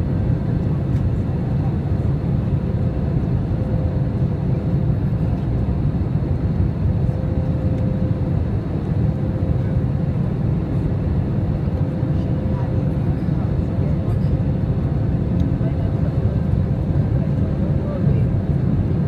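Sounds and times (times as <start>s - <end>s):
airplane engines and airflow rumble: 0.0s - 19.0s.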